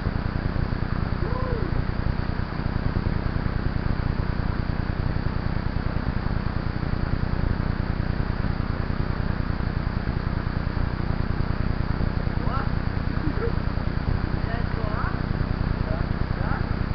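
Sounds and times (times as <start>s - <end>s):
bike trail vibration rumble: 0.0s - 16.9s.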